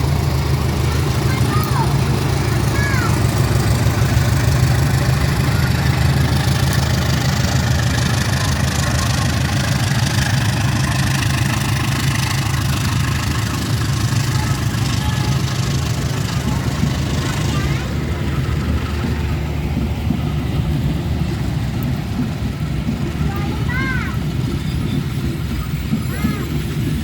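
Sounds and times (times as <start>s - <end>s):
diesel locomotive idling hum: 0.0s - 27.0s.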